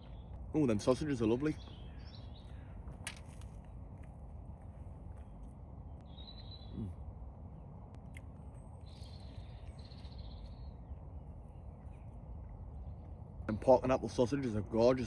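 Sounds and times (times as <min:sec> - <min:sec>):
birds calling: 0:00.0 - 0:03.9, 0:05.1 - 0:15.0.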